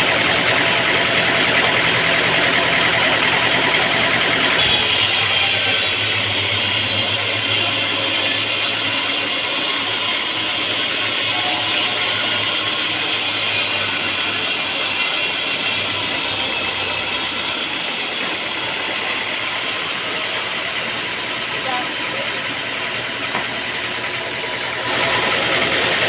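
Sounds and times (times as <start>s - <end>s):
sawmill mechanical clatter: 0.0s - 26.0s.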